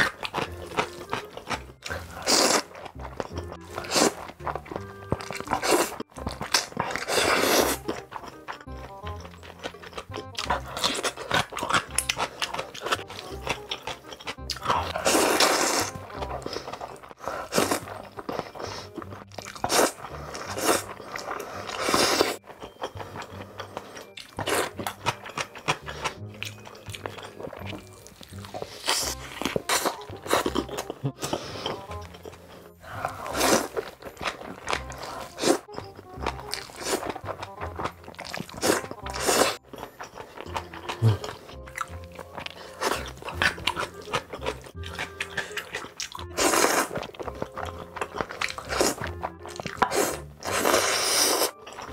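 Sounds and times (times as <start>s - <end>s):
background music with bass: 0.0s - 22.4s, 23.0s - 39.8s, 40.4s - 51.9s
crunching and chewing: 0.0s - 51.9s.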